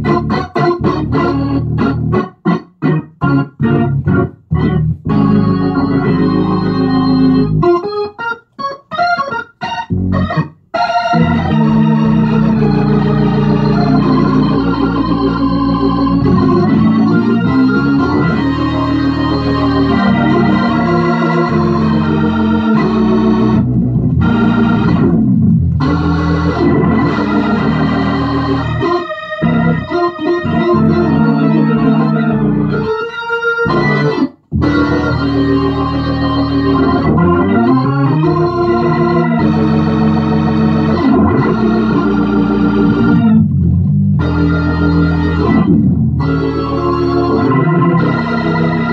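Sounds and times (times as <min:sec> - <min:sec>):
organ chords: 0:00.0 - 0:48.9.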